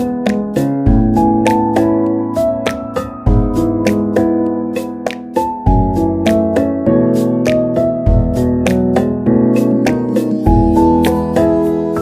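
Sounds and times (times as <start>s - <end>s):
keyboard chords: 0.0s - 12.0s.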